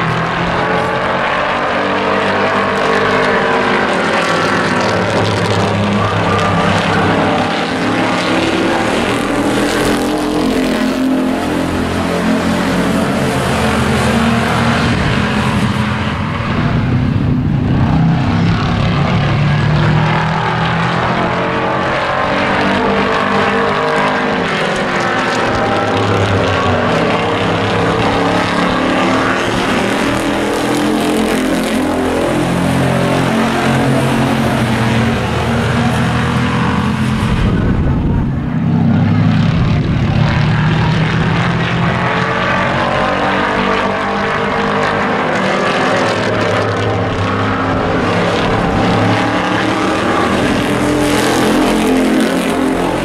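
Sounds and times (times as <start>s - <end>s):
racing truck engines passing: 0.0s - 53.0s.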